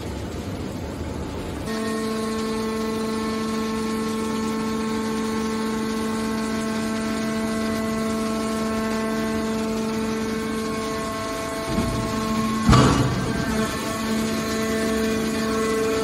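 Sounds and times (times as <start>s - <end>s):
hydraulic pump motor whine: 1.6s - 16.0s.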